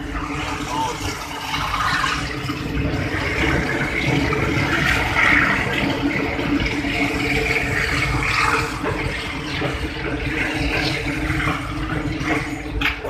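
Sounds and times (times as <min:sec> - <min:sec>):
moving train rushing: 0:00.0 - 0:13.0.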